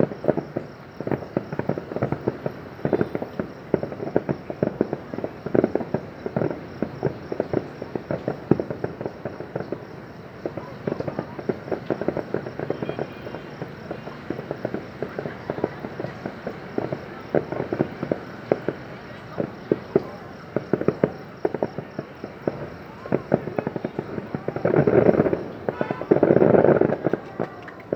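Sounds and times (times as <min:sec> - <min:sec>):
distant fireworks popping and banging: 0:00.0 - 0:27.9.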